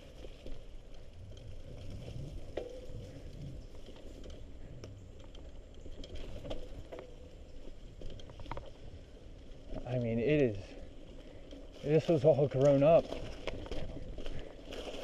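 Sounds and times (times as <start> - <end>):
bike tyres and frame rattling: 0.0 - 15.0.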